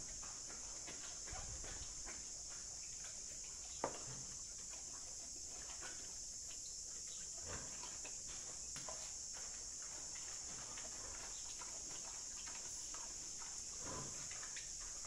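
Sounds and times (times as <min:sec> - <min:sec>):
high insect drone: 0:00.0 - 0:15.0
pig crunching watermelon: 0:00.0 - 0:15.0.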